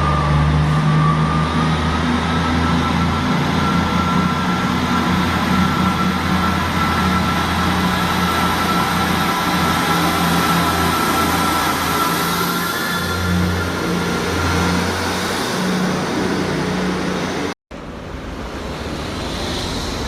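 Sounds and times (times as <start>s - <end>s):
diesel engine running: 0.0s - 19.8s.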